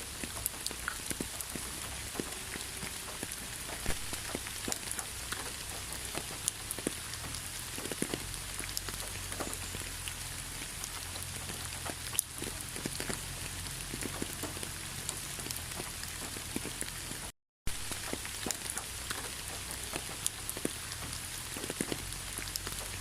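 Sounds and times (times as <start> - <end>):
rain falling: 0.0 - 23.0
raindrops ticking close by: 0.0 - 23.0.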